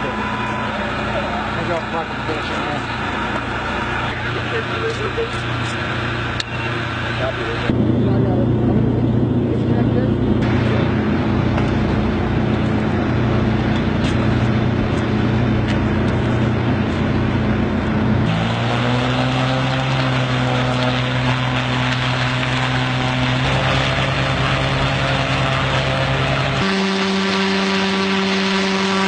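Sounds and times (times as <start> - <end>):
drone engine droning hum: 0.0 - 29.0.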